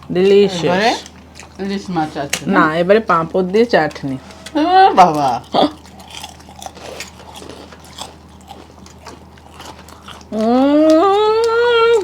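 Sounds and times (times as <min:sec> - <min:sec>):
chewing crunchy crisps: 0:00.9 - 0:02.4, 0:03.3 - 0:12.0.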